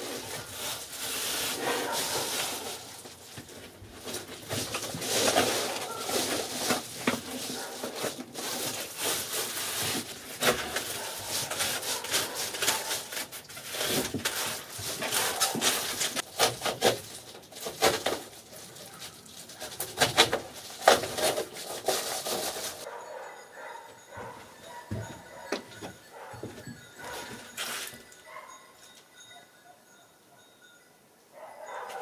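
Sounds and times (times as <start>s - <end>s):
insulation rustling and crinkling: 0.0s - 28.5s.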